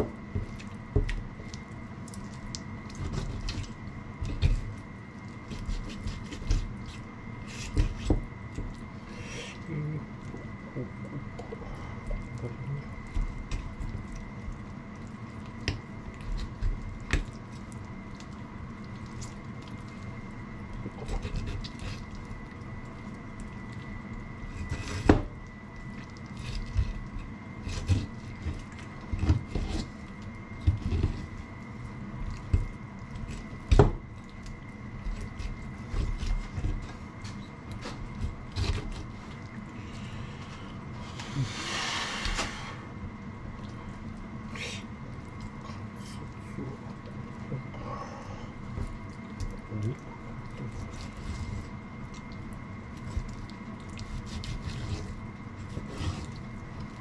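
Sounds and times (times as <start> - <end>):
wet squishing and dripping: 0.2 - 39.8, 43.0 - 47.7, 48.5 - 57.0.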